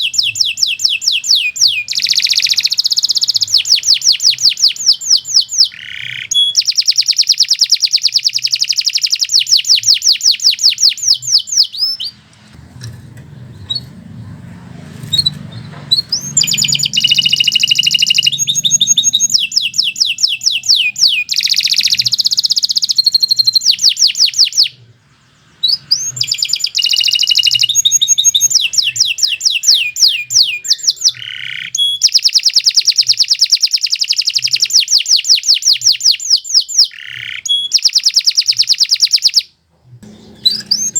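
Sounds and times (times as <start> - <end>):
canary singing trills: 0.0 - 12.3, 14.9 - 40.9.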